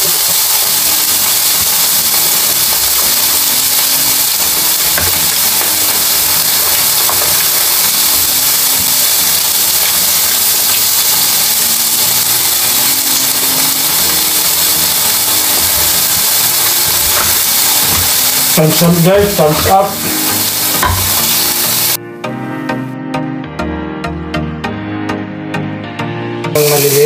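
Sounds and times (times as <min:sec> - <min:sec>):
food sizzling on grill: 0:00.0 - 0:22.0, 0:26.6 - 0:27.0.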